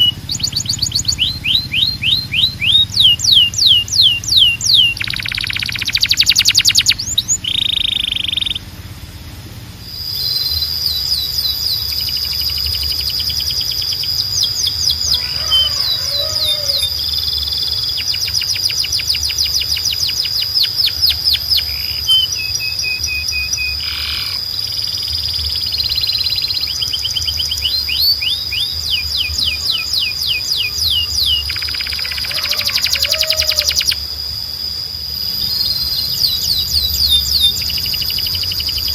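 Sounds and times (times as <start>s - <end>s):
canary singing: 0.0s - 9.0s, 9.8s - 38.9s.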